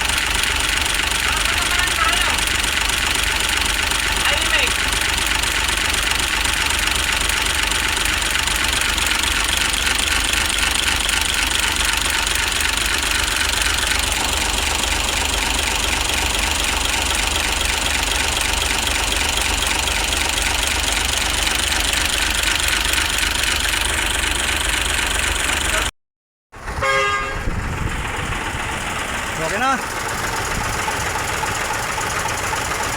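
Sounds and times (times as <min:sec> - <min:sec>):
diesel engine idling with clatter: 0:00.0 - 0:25.9, 0:26.6 - 0:32.9.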